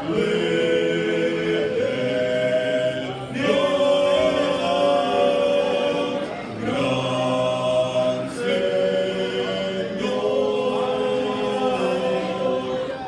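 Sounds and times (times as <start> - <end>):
congregation singing worship song: 0.0 - 13.0.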